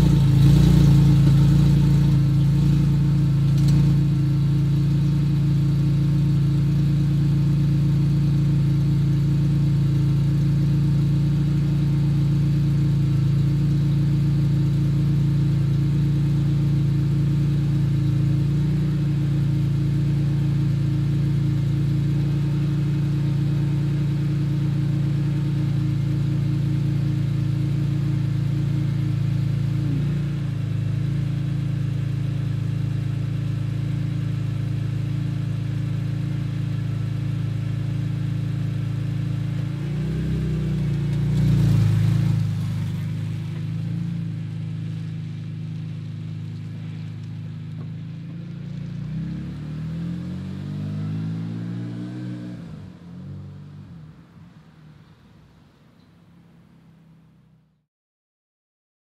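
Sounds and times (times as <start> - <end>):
car engine idling: 0.0 - 49.6, 52.8 - 57.7
car pulling away: 0.0 - 57.7.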